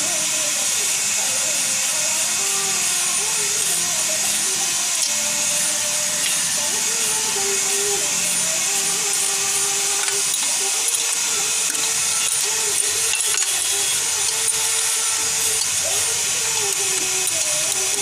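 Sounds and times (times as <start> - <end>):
machine motor whine and hiss: 0.0 - 18.0.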